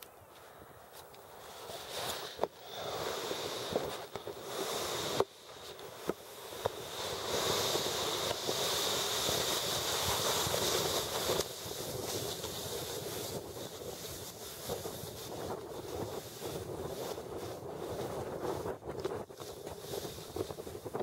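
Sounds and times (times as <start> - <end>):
wind on microphone: 0.6 - 21.0
sled hissing on snow: 1.3 - 21.0.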